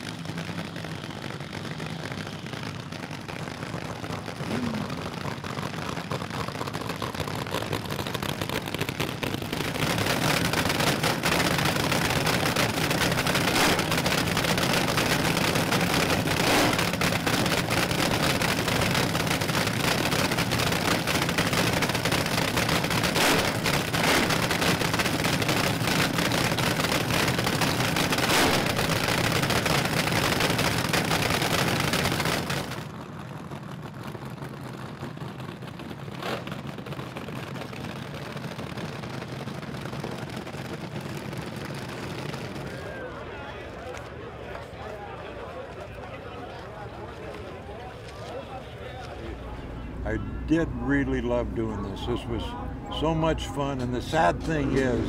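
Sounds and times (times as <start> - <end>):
dragster engines crackling at idle: 0.0 - 55.0.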